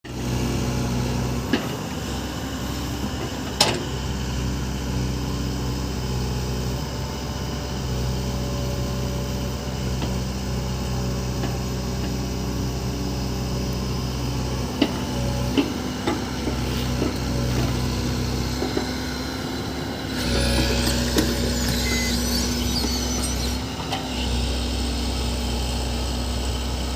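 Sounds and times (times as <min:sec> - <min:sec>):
diesel engine running: 0:00.1 - 0:26.9.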